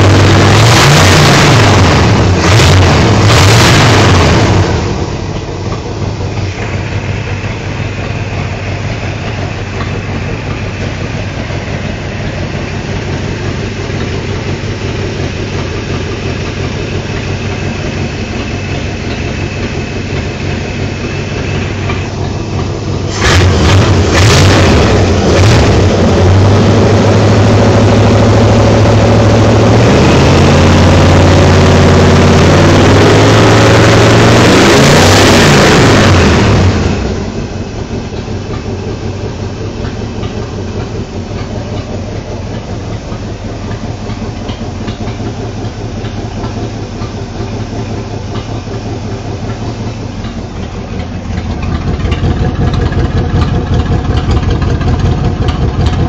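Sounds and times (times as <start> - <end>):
loud engine running: 0.0 - 56.0.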